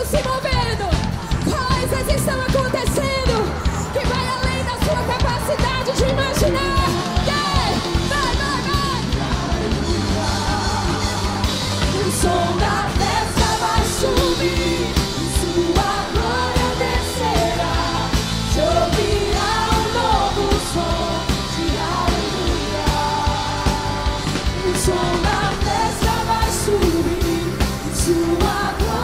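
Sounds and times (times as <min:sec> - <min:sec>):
band with drums and bass: 0:00.0 - 0:29.0
women singing: 0:01.5 - 0:29.0.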